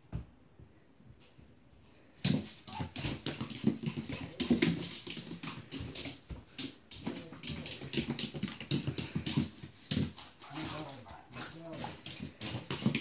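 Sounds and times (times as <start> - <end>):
paws scuffling on tiled floor: 2.0 - 13.0.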